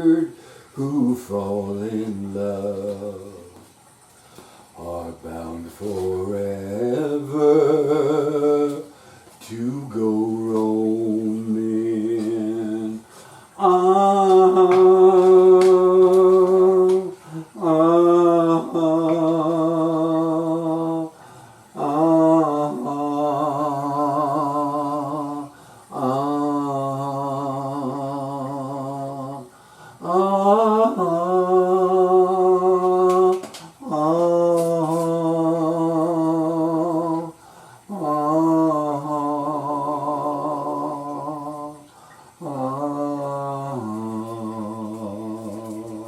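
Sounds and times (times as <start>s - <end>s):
person singing wordless notes: 0.0s - 3.7s, 4.8s - 21.2s, 21.8s - 46.0s.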